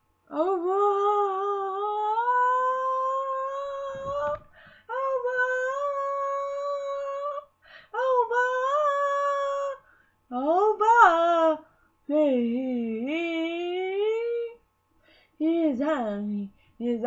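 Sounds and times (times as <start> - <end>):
woman singing unaccompanied: 0.3 - 14.6, 15.4 - 17.0.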